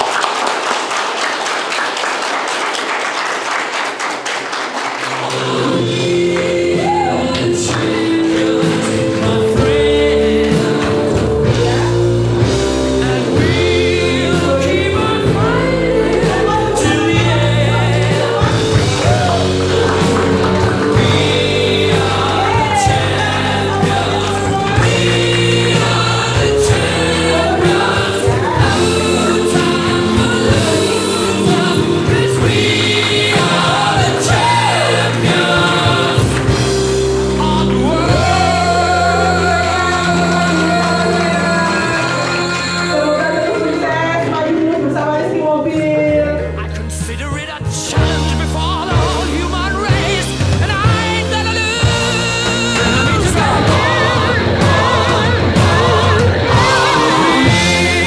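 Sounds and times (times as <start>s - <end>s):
audience clapping: 0.0s - 12.4s, 14.3s - 44.9s, 51.8s - 58.0s
song with singing: 4.9s - 58.0s.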